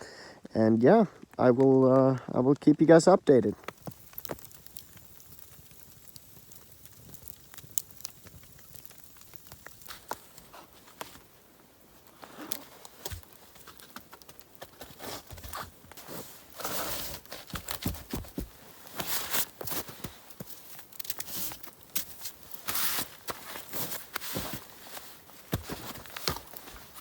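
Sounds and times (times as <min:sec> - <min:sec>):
faint ticks and pops: 0:00.4 - 0:16.0, 0:16.7 - 0:27.0
rustling and crinkling: 0:01.0 - 0:27.0.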